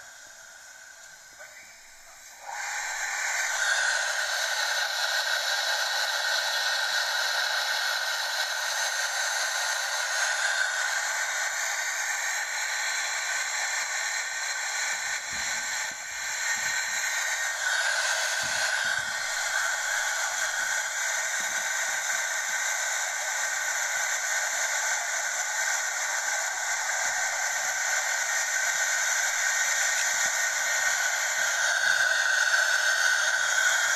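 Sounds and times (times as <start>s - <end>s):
car wash hissing: 0.0s - 33.9s.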